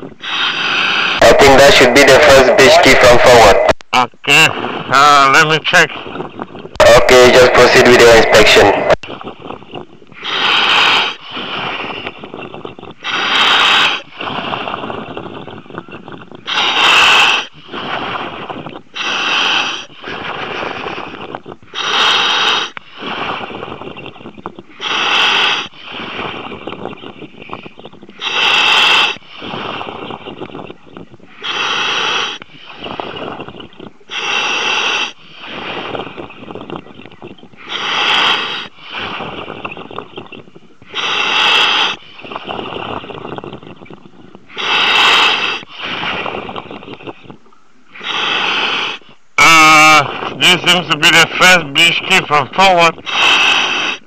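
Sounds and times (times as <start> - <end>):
diver breathing: 0.0 - 3.8, 5.9 - 54.0
diver regulator gas rush: 0.0 - 54.0.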